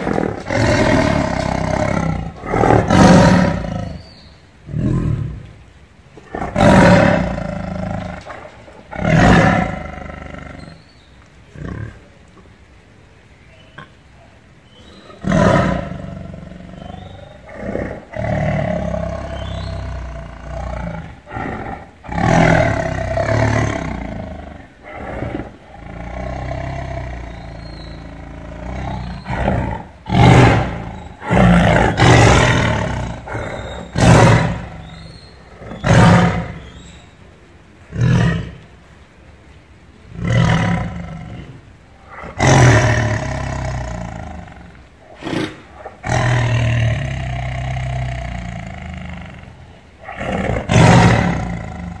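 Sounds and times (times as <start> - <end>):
tiger roaring: 0.0 - 4.1, 6.2 - 10.8, 14.9 - 36.9, 37.8 - 38.7, 40.1 - 52.0
tiger growling: 0.0 - 5.6, 6.2 - 12.5, 14.8 - 37.0, 40.1 - 52.0.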